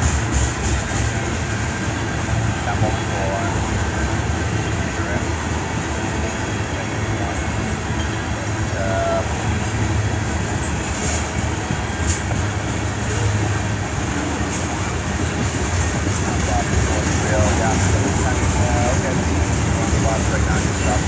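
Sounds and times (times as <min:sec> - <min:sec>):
freight train running: 0:00.0 - 0:21.0.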